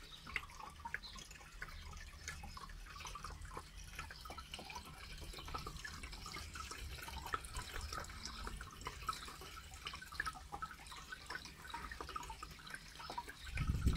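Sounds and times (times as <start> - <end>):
water dripping and trickling: 0.0 - 13.9.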